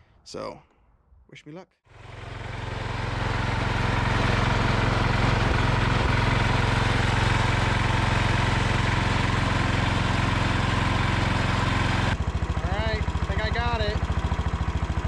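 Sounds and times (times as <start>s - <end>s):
garden tractor engine running: 1.9s - 15.0s.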